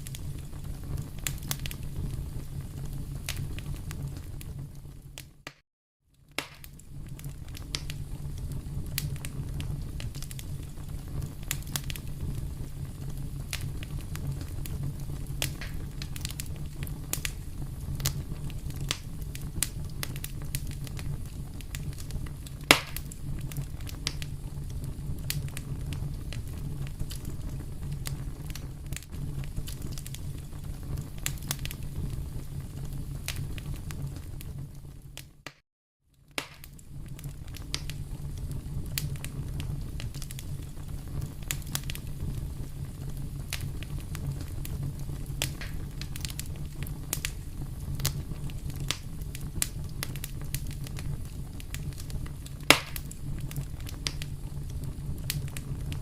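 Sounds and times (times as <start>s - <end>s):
low rumble of flames: 0.0s - 5.5s, 6.1s - 35.5s, 36.1s - 56.0s
wood fire crackling and popping: 0.0s - 56.0s.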